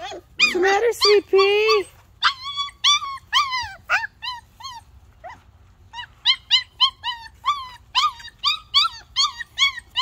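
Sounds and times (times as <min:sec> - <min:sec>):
puppy whining: 0:00.0 - 0:10.0.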